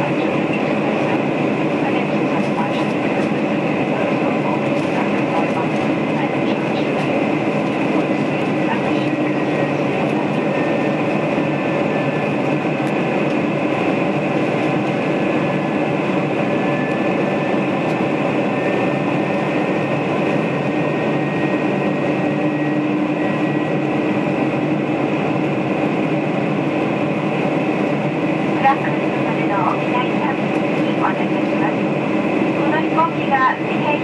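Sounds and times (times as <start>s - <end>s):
airflow rush in cabin: 0.0s - 34.0s
jet engines droning: 0.0s - 34.0s.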